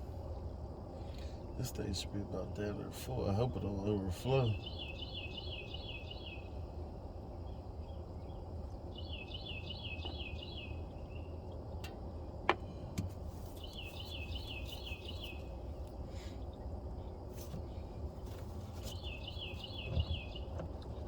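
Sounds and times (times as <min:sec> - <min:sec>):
steady low hum: 0:00.0 - 0:21.0
songbird chirping: 0:01.0 - 0:21.0.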